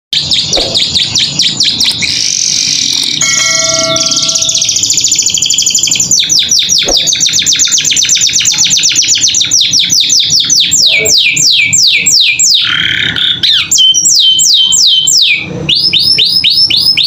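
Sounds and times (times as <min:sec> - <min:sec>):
canary singing: 0:00.1 - 0:17.0.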